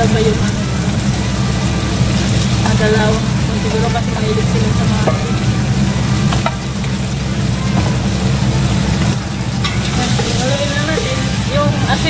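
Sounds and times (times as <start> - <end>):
low hum: 0.0 - 12.0
meat sizzling in a pot: 0.0 - 12.0.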